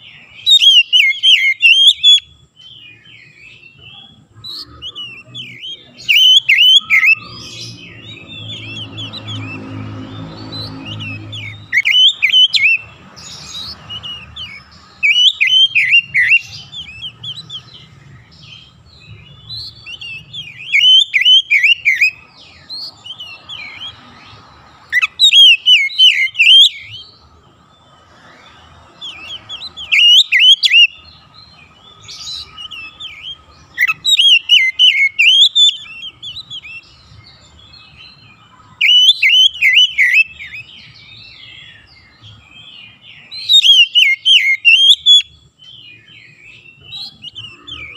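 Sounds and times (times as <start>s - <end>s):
bird singing whistled notes: 0.0s - 27.3s, 28.2s - 47.9s.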